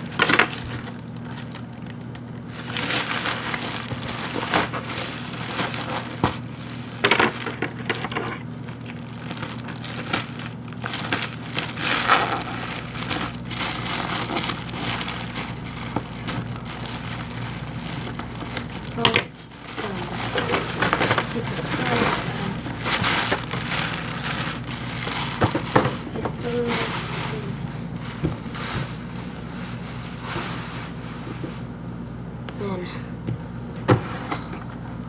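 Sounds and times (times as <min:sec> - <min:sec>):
cardboard and plastic crinkling: 0:00.0 - 0:31.7
steady low hum: 0:00.0 - 0:35.0.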